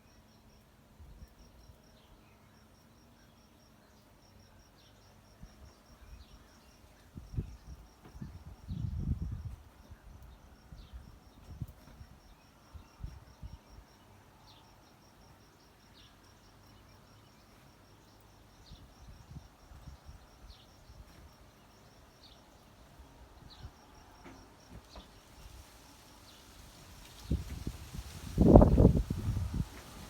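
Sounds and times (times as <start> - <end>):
rapid pulsing insect chirp: 0.0 - 30.0.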